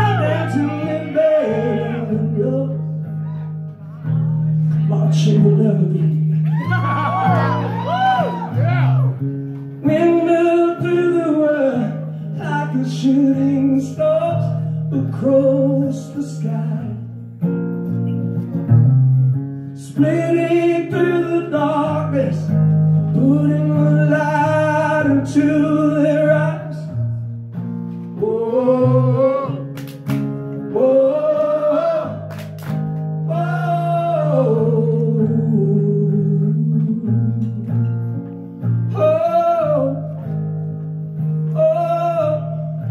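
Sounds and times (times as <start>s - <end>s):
man singing into a microphone: 0.0s - 7.5s, 9.8s - 17.1s, 19.8s - 27.1s, 28.0s - 29.8s, 30.5s - 32.3s, 33.2s - 38.0s, 38.9s - 42.9s
strummed acoustic guitar: 0.0s - 42.9s.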